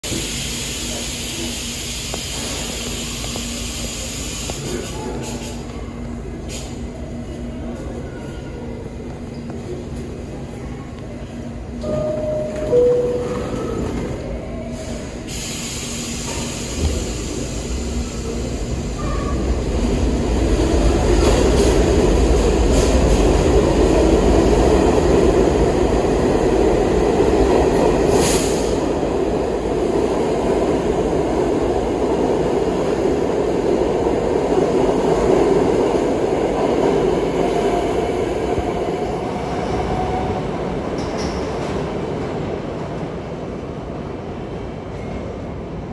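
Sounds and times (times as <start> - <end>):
subway train rumbling: 0.0 - 45.9.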